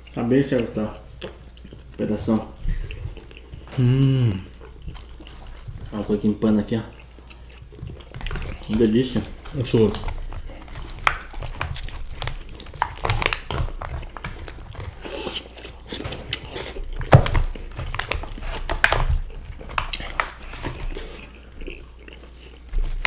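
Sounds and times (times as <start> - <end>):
chewing and biting: 0.0 - 23.0.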